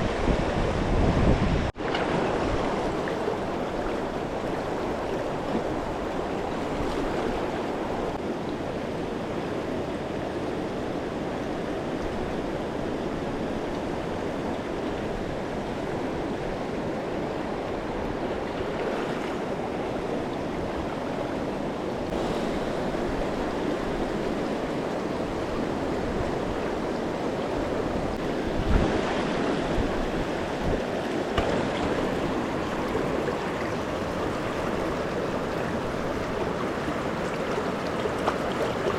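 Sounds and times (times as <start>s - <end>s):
river water flowing over rocks: 1.7s - 38.9s.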